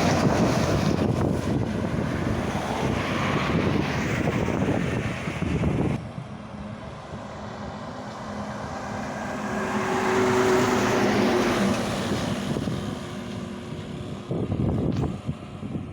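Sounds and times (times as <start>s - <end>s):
truck driving past: 0.0s - 15.9s
wind buffeting microphone: 0.0s - 15.9s.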